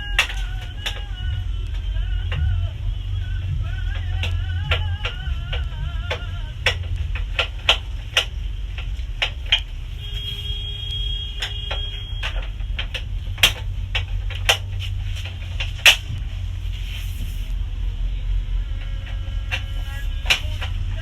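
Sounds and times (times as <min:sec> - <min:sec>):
metal parts clicking and tapping: 0:00.0 - 0:10.3, 0:11.0 - 0:16.4, 0:18.8 - 0:21.0
steady low hum: 0:00.0 - 0:21.0.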